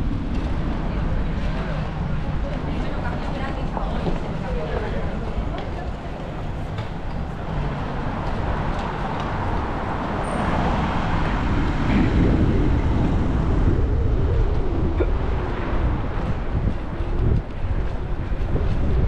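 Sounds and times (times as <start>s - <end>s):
bicycle tyre noise on wet road: 0.0s - 19.0s
wind rushing over microphone: 0.0s - 19.0s.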